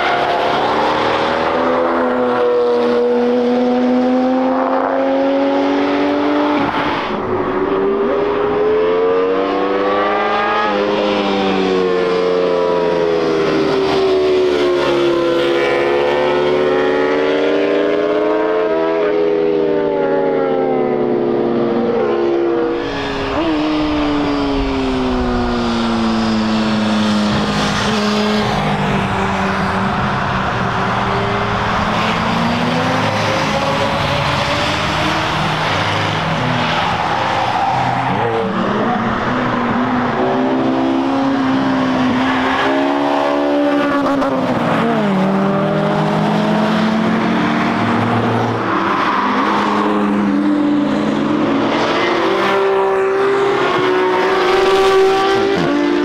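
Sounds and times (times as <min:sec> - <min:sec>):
race car engines: 0:00.0 - 0:56.0.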